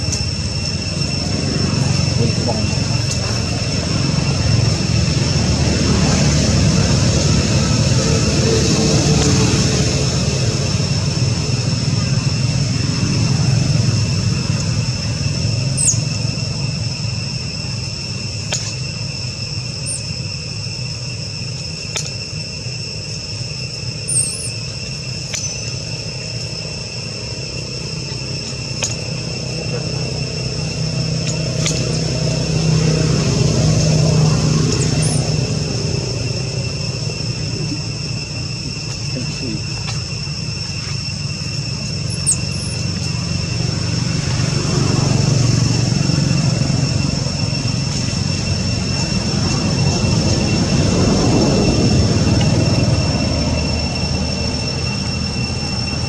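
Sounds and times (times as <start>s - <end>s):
high-pitched insect drone: 0.0s - 56.0s
low rumble of passing traffic: 0.0s - 56.0s.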